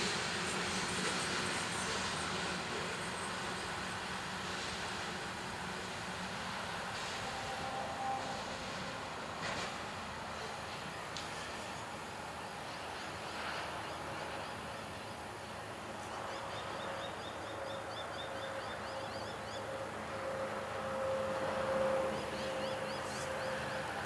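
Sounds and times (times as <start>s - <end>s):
train wagons rumbling on track: 0.0s - 24.0s.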